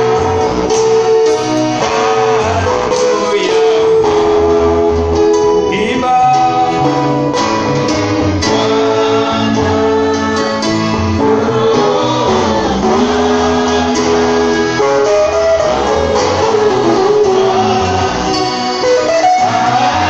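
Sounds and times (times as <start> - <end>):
singers on microphones: 0.0 - 4.9, 5.6 - 20.0
congregation singing: 0.0 - 20.0
instrumental accompaniment: 0.0 - 20.0.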